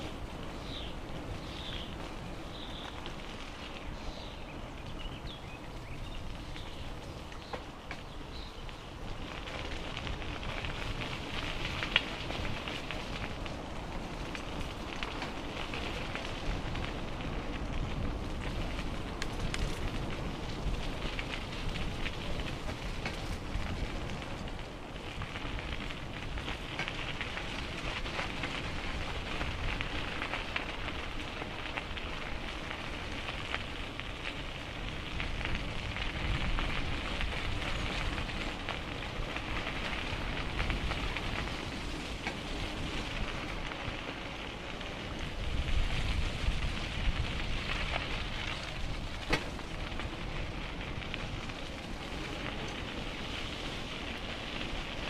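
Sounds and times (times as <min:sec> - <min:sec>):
bicycle tyres rolling on path: 0:00.0 - 0:55.0
wind rumbling on microphone: 0:00.0 - 0:55.0.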